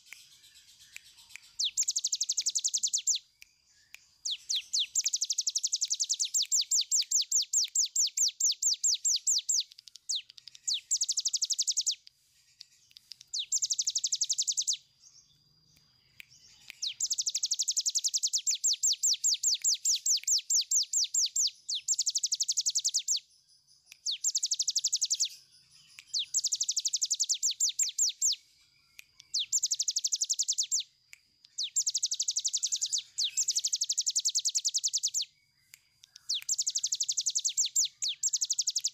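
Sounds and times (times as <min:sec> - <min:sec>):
bird singing rattling trills: 0:00.0 - 0:15.4, 0:16.0 - 0:23.2, 0:24.0 - 0:28.4, 0:29.2 - 0:30.9, 0:31.5 - 0:35.3, 0:36.0 - 0:38.9.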